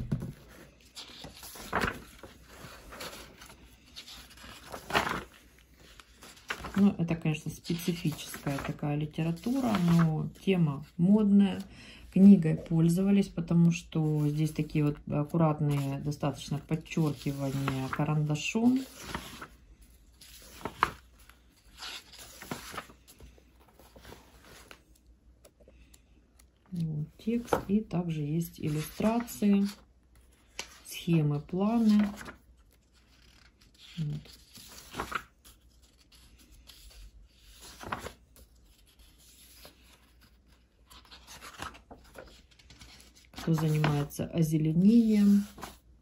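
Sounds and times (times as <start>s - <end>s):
book pages rustling: 0.0s - 11.0s, 15.6s - 44.1s, 44.7s - 45.9s.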